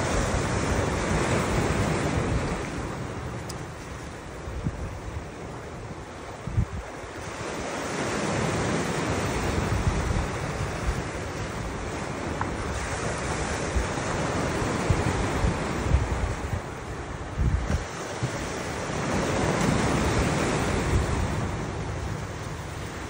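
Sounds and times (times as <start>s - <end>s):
surf washing in: 0.0s - 23.0s
wind buffeting microphone: 0.0s - 23.0s.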